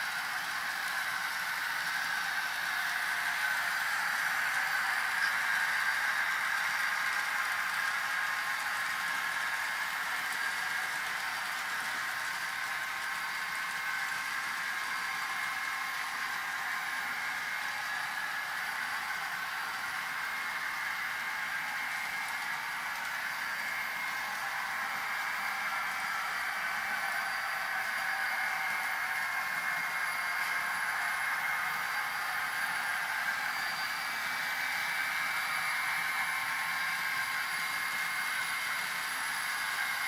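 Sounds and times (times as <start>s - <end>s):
model train whirring hiss: 0.0s - 40.0s.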